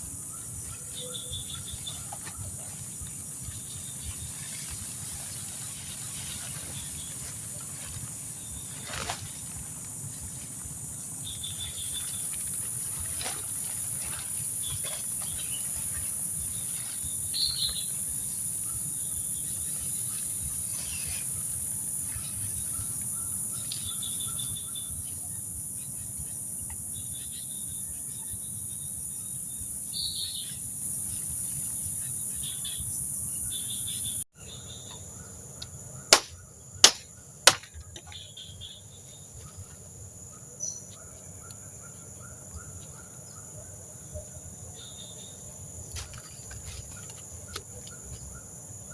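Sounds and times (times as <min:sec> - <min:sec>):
insects chorus: 0:00.0 - 0:48.9.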